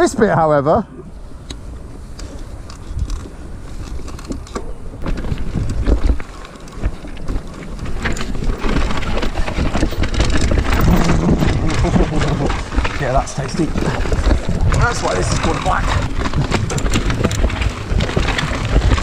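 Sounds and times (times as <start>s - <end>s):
wind rumbling on microphone: 1.0s - 19.0s
bike tyres over stones: 1.9s - 19.0s
bike knocks and rattles: 3.0s - 19.0s.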